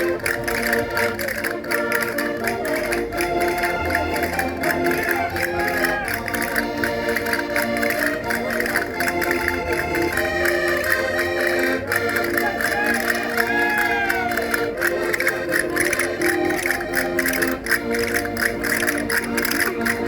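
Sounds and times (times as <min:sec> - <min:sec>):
concertinas playing folk dance tune: 0:00.0 - 0:20.0.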